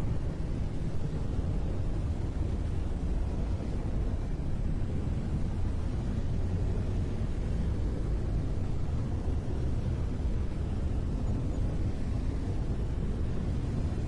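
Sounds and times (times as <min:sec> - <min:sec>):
deep rushing brown noise: 0:00.0 - 0:14.0.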